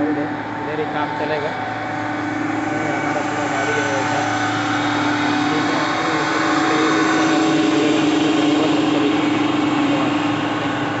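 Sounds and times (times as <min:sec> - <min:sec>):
truck engine and hydraulics droning: 0:00.0 - 0:11.0.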